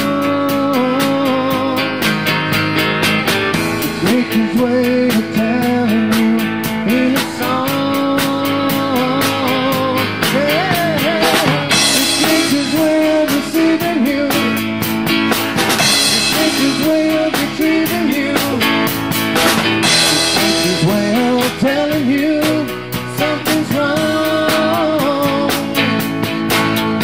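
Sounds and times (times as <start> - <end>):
drum kit steady beat: 0.0 - 27.0
lead guitar bending notes: 0.0 - 27.0.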